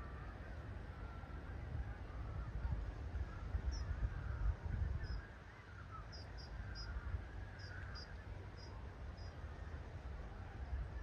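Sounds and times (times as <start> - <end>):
low wavering bird calls: 0.0 - 11.0
wind buffeting microphone: 0.0 - 11.0.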